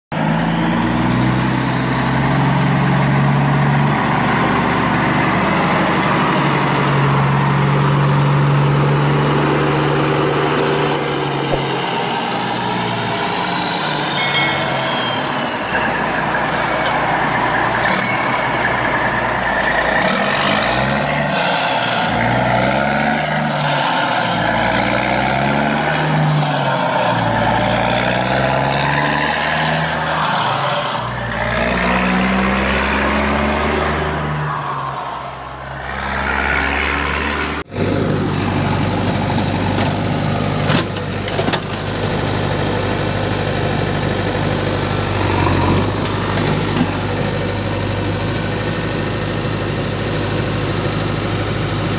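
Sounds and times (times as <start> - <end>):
heavy truck engine revving: 0.1 - 51.9.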